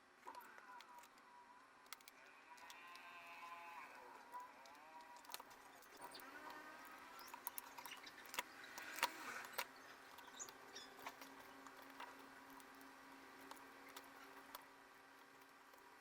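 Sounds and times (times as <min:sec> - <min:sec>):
plastic laptop parts clicking: 0:00.2 - 0:16.0.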